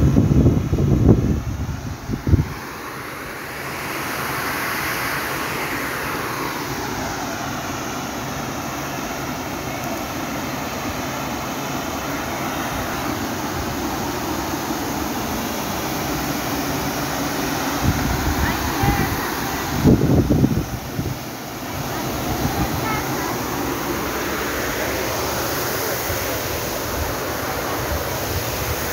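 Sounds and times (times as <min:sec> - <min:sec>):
water rushing from dam outlet: 0:00.0 - 0:28.9.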